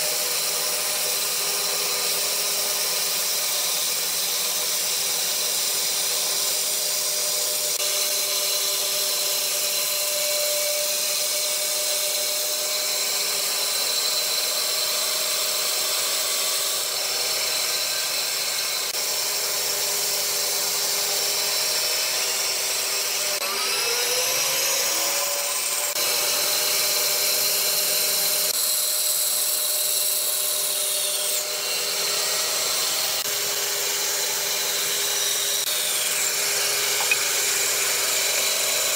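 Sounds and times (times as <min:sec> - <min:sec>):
bandsaw whine: 0:00.0 - 0:38.9.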